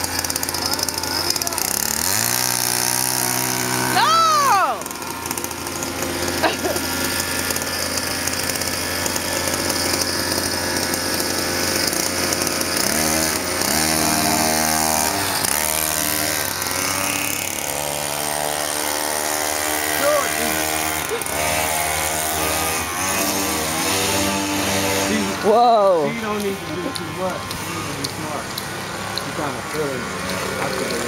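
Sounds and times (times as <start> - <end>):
scooter engines buzzing and revving: 0.0 - 31.0.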